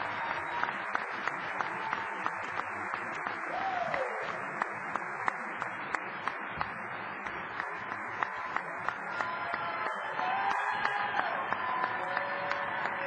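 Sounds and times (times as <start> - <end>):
crowd applauding and cheering: 0.0 - 13.0.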